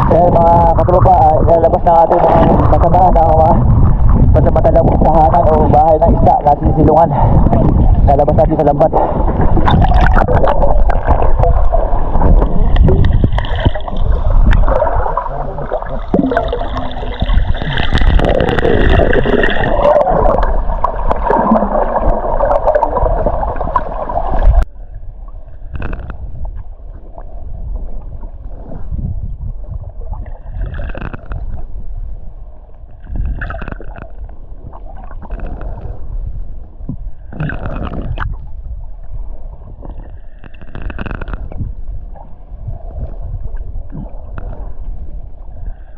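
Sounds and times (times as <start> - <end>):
water gurgling and rushing: 0.0 - 31.8, 37.2 - 45.5.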